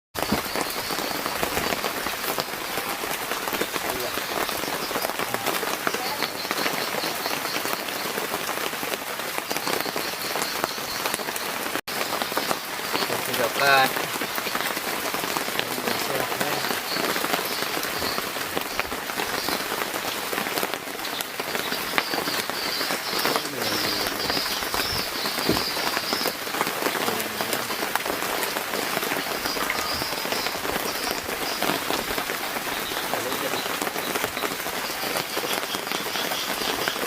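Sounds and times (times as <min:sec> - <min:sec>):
heavy rain pouring: 0:00.2 - 0:37.0.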